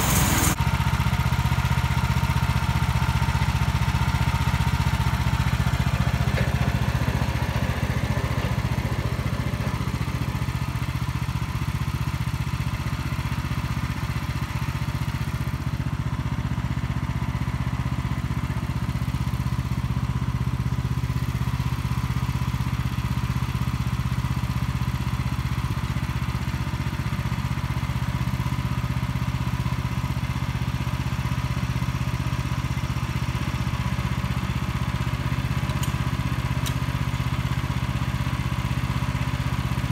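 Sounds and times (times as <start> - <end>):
engine running with low drone: 0.0 - 39.9.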